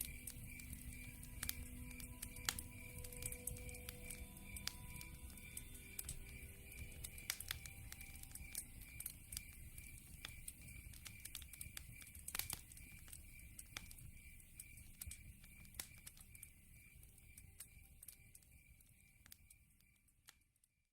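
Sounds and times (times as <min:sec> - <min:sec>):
wood fire crackling and popping: 0:00.0 - 0:20.7
insect chirping: 0:00.0 - 0:20.9.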